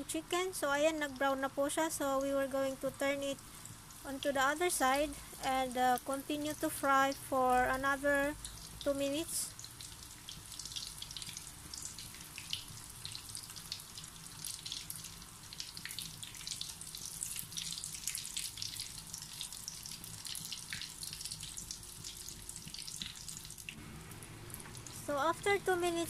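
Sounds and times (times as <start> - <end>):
chicken deep-frying in hot oil: 0.0 - 26.0
oil crackles and pops: 3.2 - 25.1.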